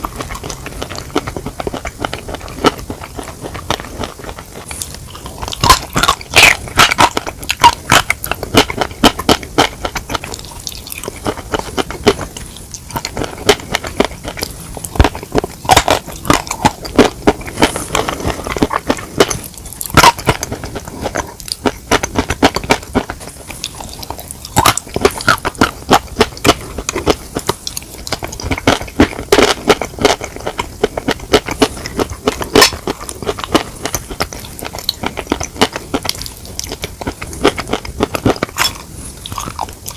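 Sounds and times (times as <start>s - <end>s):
chewing chicken: 0.0s - 39.9s.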